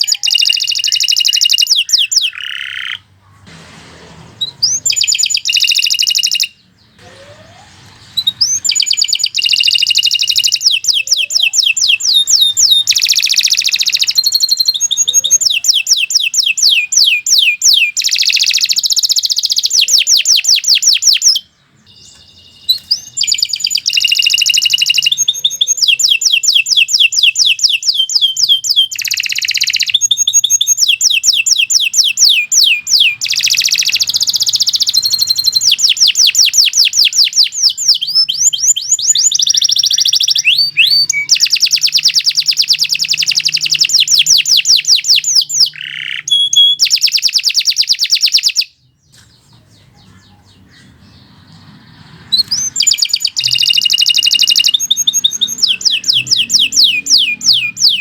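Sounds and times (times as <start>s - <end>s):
canary singing trills: 0.0s - 3.4s, 4.4s - 58.0s.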